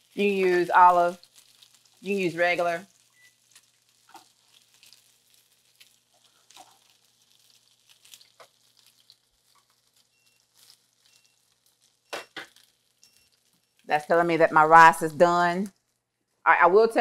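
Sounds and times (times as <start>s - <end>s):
fish sizzling in a pan: 0.0s - 16.3s.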